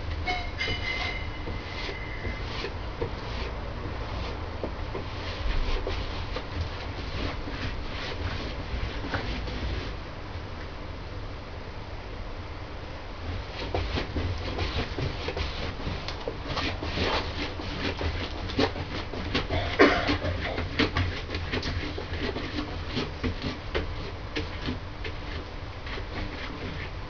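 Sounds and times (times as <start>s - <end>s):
pen scratching on panel: 0.4s - 9.9s, 13.5s - 27.0s.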